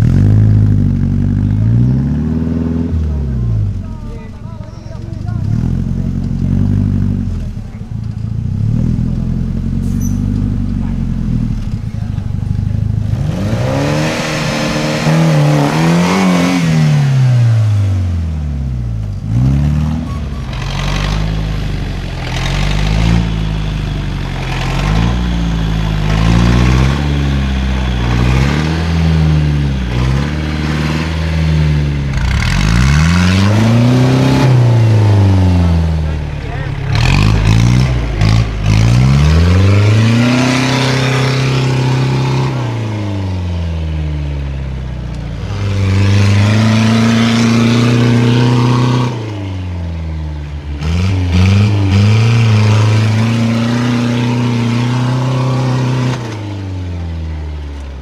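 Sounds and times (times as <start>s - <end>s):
buggy engine idling and revving: 0.0s - 58.0s.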